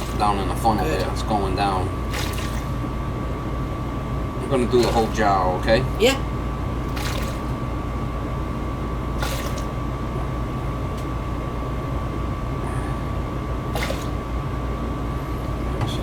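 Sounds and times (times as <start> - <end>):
furnace droning: 0.0 - 16.0
thin steady whine: 0.0 - 16.0.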